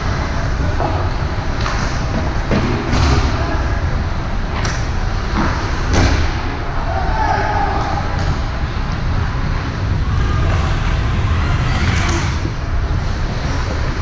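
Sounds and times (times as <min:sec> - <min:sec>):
low crowd rumble: 0:00.0 - 0:14.0.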